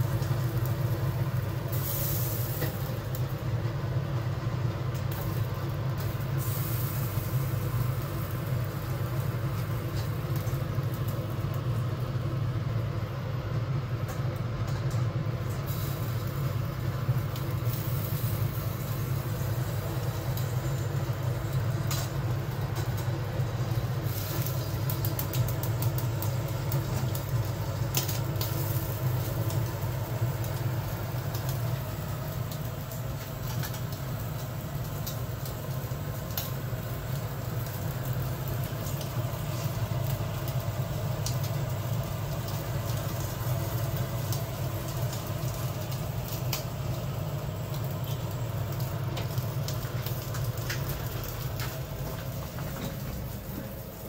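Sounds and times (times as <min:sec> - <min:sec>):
fish crackling on grill: 0:00.0 - 0:54.0
gas burner rumble: 0:00.0 - 0:54.0.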